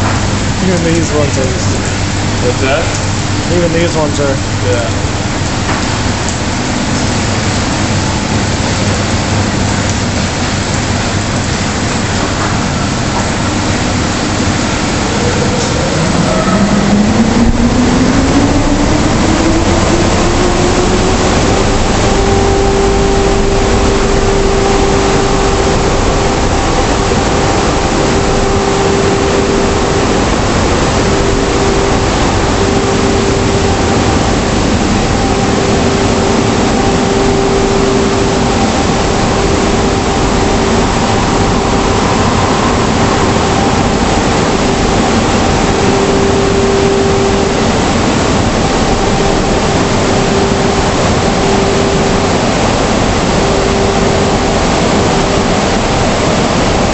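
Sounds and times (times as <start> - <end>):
car wash blower motors: 0.0 - 56.9.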